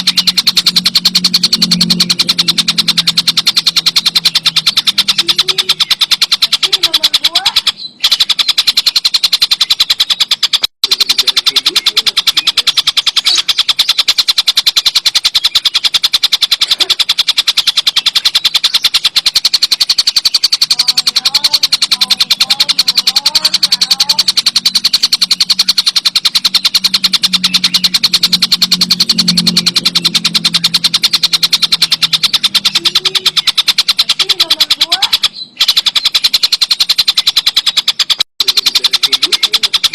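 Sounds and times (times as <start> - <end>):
kingfisher rattling chatter: 0.0 - 39.9.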